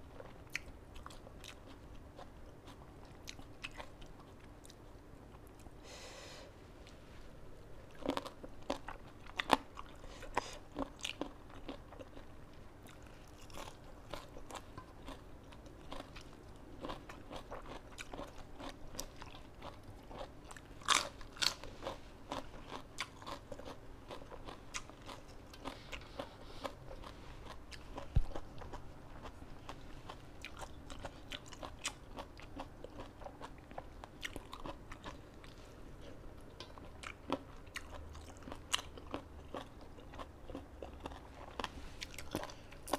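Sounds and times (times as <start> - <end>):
chewing and crunching vegetables: 0.0 - 5.8, 7.6 - 42.9.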